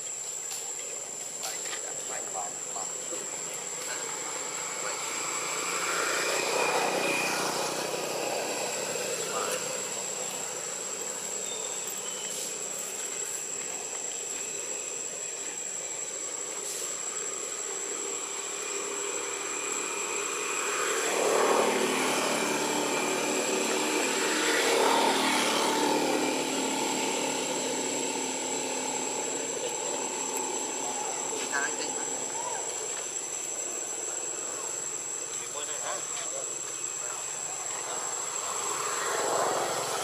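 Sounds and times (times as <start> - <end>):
high thin whine: 0.0 - 40.0
motor engine passing: 2.1 - 14.9, 17.2 - 40.0.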